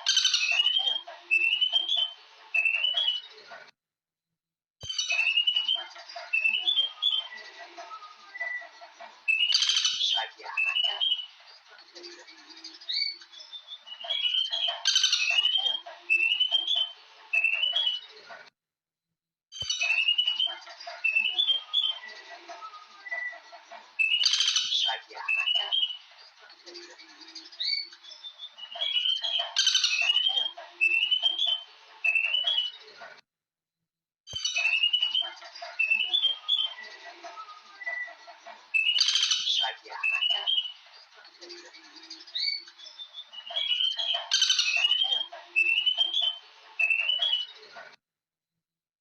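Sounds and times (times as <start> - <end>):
birds singing whistled phrases: 0.0 - 3.3, 4.8 - 11.7, 12.4 - 18.1, 19.6 - 32.9, 34.3 - 47.8.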